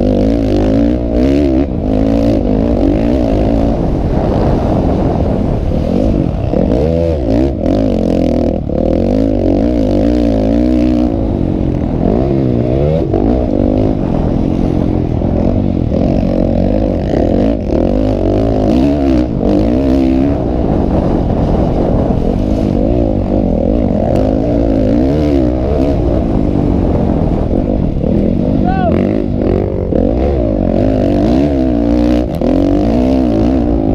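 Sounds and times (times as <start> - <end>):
motocross bike engines revving: 0.0 - 33.9.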